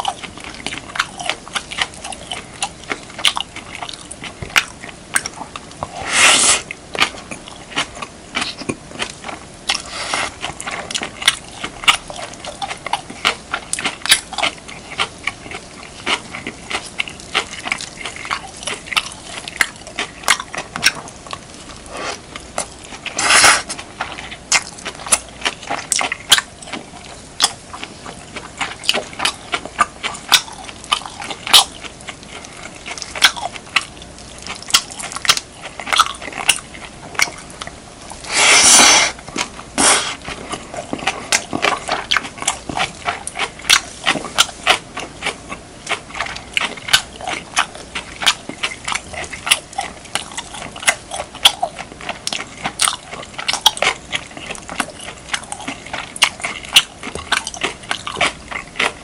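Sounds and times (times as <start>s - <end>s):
mouth chewing food: 0.0s - 59.0s.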